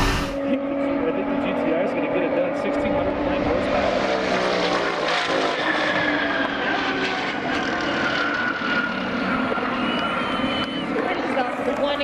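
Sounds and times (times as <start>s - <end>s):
car engine drone with whine: 0.0s - 12.0s.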